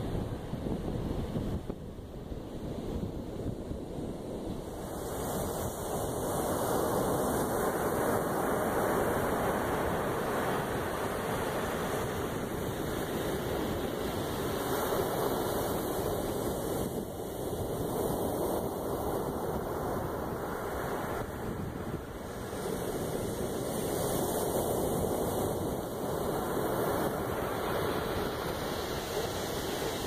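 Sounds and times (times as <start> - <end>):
surf washing up a beach: 0.0 - 30.0
wind noise on microphone: 0.0 - 30.0.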